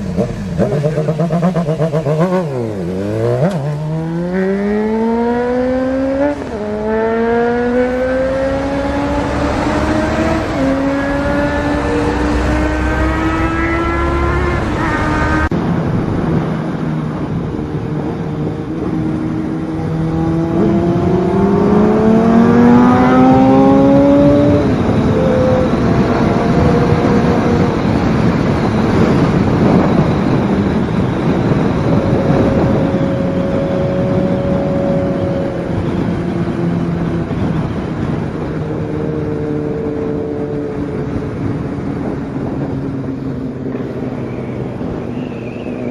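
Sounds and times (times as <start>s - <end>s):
motorcycle engine running: 0.0s - 45.6s
wind and road noise: 0.0s - 45.9s.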